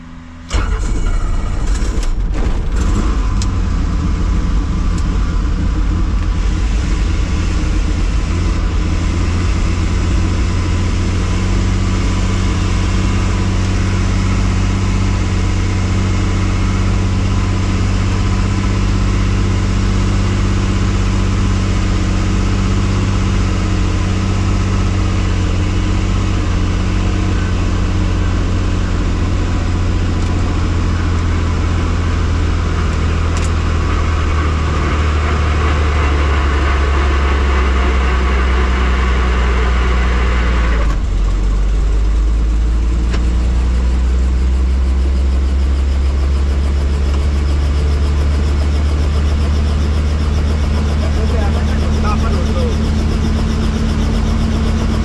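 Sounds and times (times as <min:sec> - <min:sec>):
helicopter engine and rotor running: 0:00.0 - 0:55.0.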